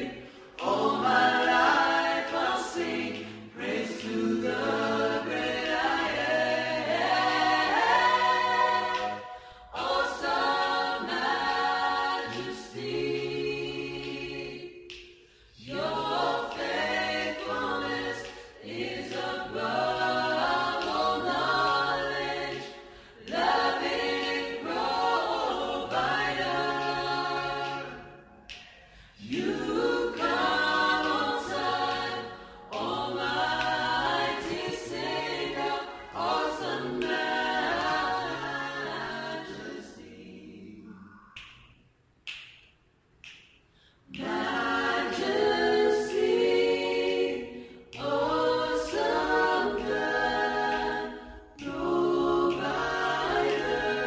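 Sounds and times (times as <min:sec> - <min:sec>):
group singing a cappella: 0:00.0 - 0:42.6, 0:43.2 - 0:54.0.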